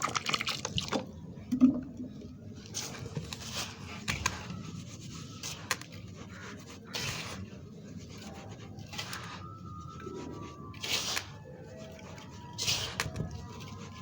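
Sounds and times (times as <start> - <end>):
sand and cement being stirred: 2.6 - 14.0.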